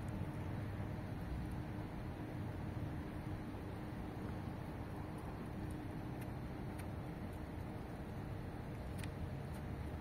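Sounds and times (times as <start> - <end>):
low outdoor background rumble: 0.0 - 10.0.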